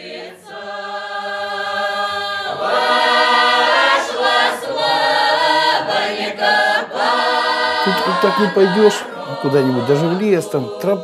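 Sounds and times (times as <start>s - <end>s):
mixed choir singing held chords: 0.0s - 11.0s.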